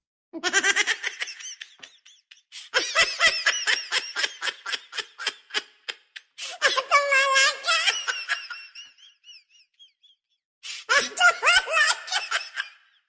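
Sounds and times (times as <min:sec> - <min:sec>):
woman laughing: 0:00.4 - 0:10.0, 0:10.7 - 0:12.9.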